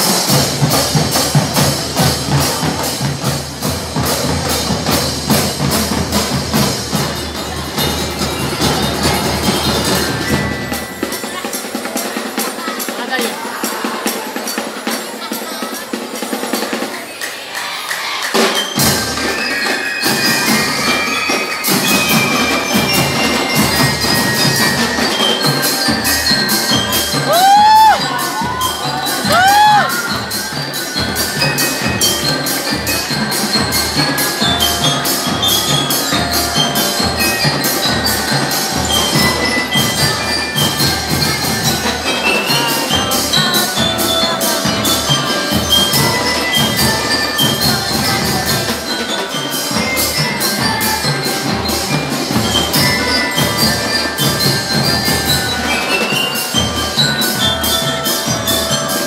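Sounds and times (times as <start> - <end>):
marching drums beating: 0.0 - 14.1, 18.4 - 59.0
bell lyres ringing melody: 0.0 - 59.0.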